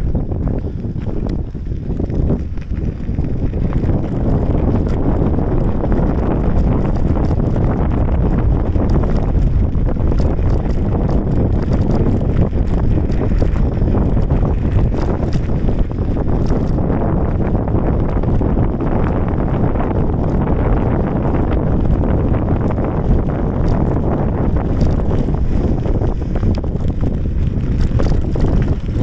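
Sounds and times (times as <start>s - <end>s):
crackles and light rattles: 0.0s - 29.0s
wind buffeting microphone: 0.0s - 29.0s.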